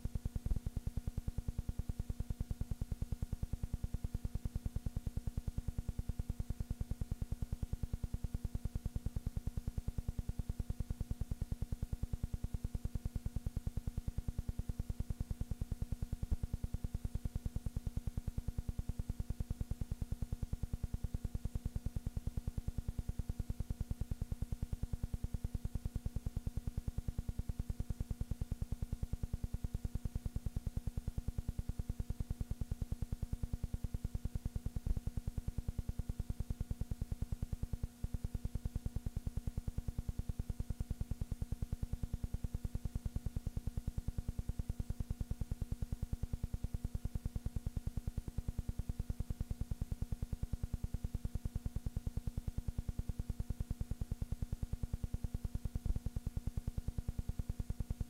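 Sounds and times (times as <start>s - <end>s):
low electrical hum with buzzing pulse: 0.0s - 58.0s.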